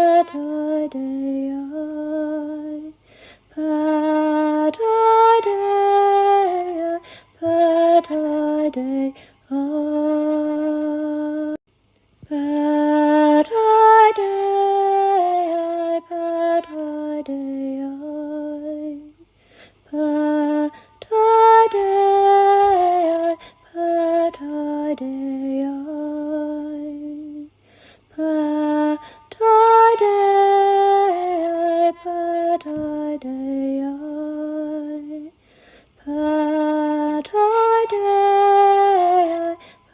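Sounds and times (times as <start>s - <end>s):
woman singing alone: 0.0s - 11.6s, 12.2s - 35.4s, 36.0s - 39.9s.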